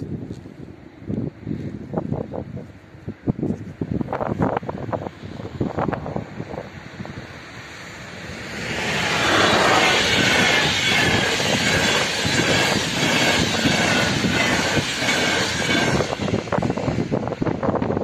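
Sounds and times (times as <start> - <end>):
train wheels on rails: 1.6 - 18.0.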